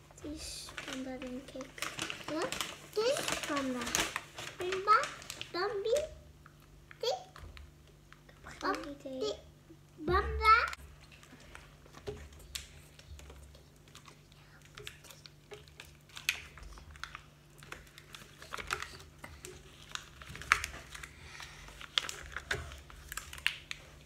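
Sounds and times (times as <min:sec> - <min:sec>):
foil and paper packaging crinkling: 0:00.0 - 0:06.6, 0:10.2 - 0:24.0.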